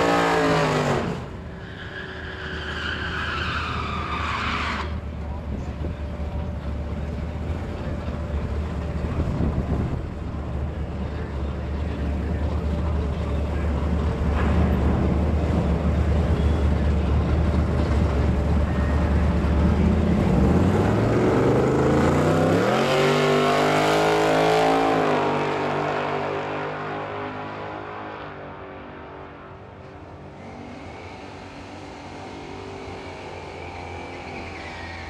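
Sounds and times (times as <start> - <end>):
vehicle engines rumbling and revving: 0.0 - 35.0.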